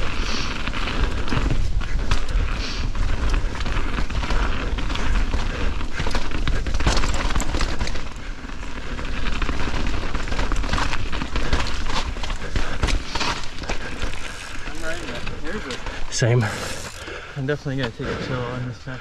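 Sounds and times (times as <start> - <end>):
bike tyres knocking on roots and rocks: 0.0 - 17.0
bike chain and frame rattling: 0.0 - 17.9.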